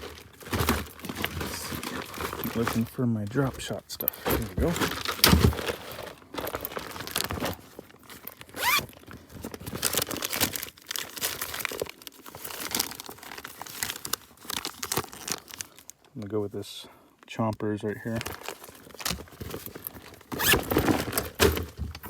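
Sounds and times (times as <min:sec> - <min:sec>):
plastic packs crinkling: 0:00.0 - 0:16.7, 0:17.4 - 0:22.0.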